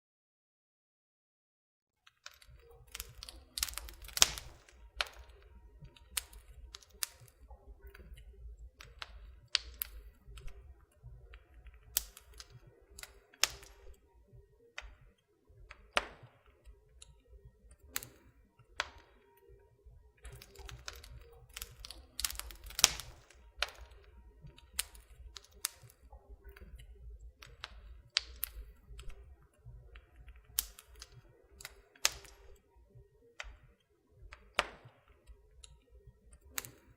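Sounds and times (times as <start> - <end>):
wood fire crackling: 2.0 - 36.9.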